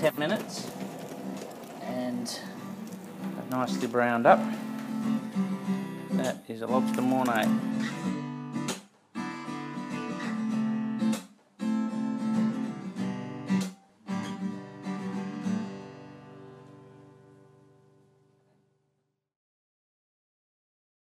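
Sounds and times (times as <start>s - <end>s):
strummed acoustic guitar chords: 0.0s - 18.4s.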